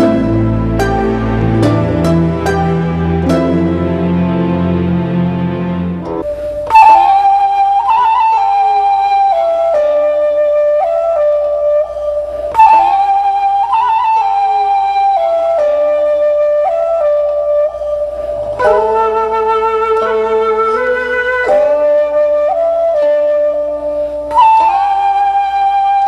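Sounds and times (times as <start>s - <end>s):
low musical accompaniment: 0.0s - 26.0s
slow flute melody: 0.0s - 26.0s.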